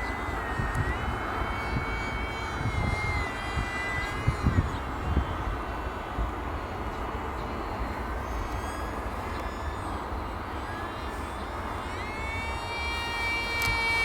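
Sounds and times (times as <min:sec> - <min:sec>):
electric motor and propeller whining: 0:00.0 - 0:14.0.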